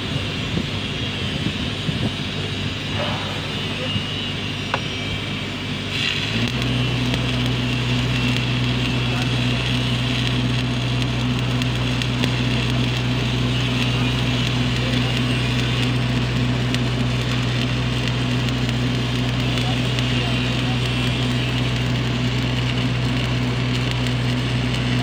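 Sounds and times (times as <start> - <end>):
welding arc crackling and hissing: 0.0 - 25.0
welding generator hum: 0.0 - 25.0.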